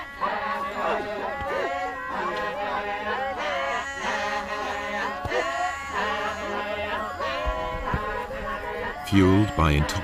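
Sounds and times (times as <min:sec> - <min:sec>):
men chanting together: 0:00.0 - 0:10.0.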